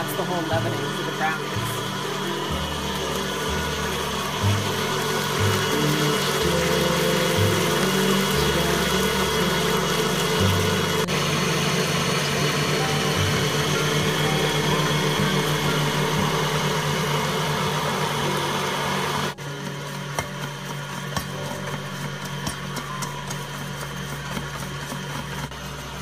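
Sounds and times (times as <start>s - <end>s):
stand mixer whisking batter: 0.0s - 26.0s.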